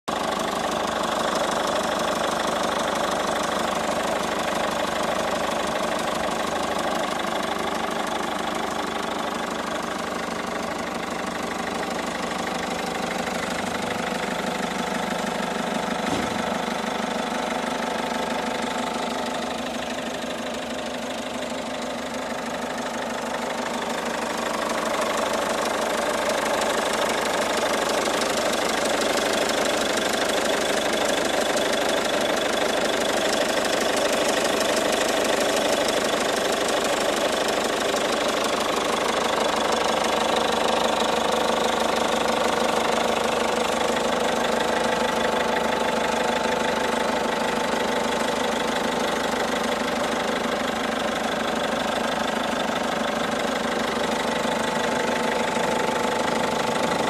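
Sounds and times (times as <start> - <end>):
diesel engine running: 0.1 - 57.0.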